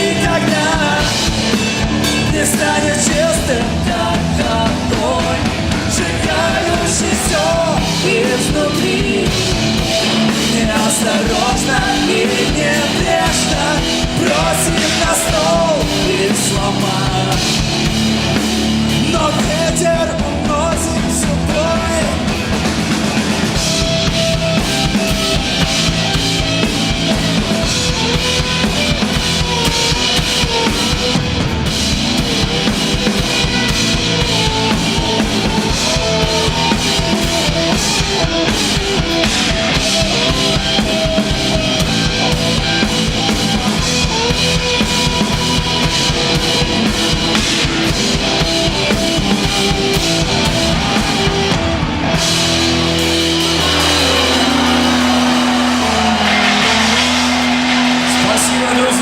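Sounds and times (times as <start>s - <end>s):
driving drum beats: 0.0s - 59.0s
live rock band playing: 0.0s - 59.0s.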